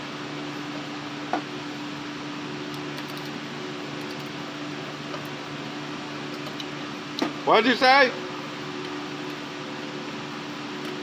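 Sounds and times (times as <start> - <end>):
mechanical hum with hiss: 0.0 - 11.0.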